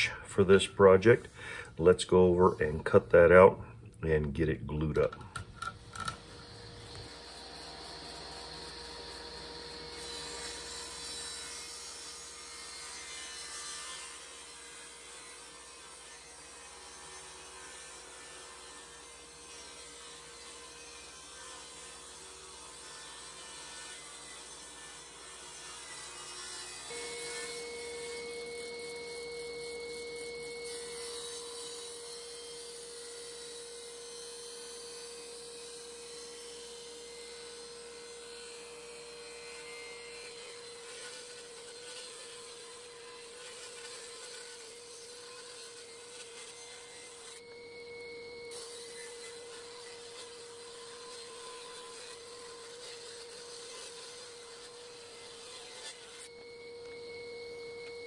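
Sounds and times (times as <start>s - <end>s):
table saw whining: 5.0s - 58.0s.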